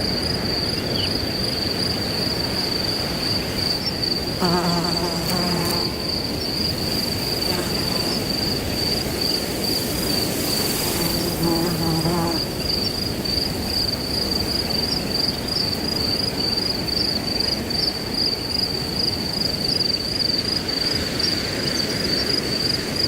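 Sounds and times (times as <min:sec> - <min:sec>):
crickets trilling: 0:00.0 - 0:23.0
wind in grass: 0:00.0 - 0:23.0.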